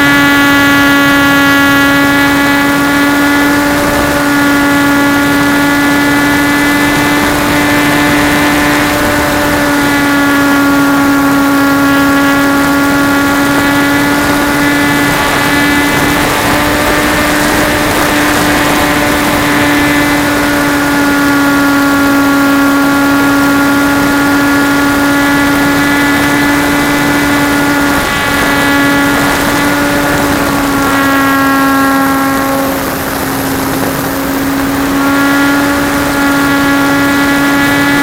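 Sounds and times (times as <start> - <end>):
model plane motor and propeller: 0.0 - 38.0
wind rushing over microphone: 0.0 - 38.0.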